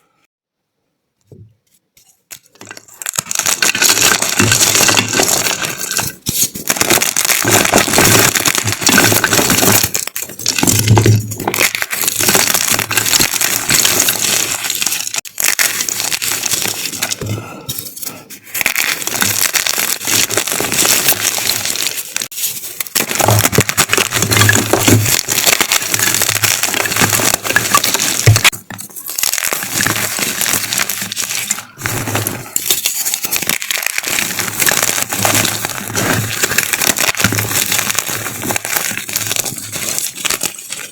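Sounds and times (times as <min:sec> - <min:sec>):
chalk crunching: 0:02.4 - 0:40.9.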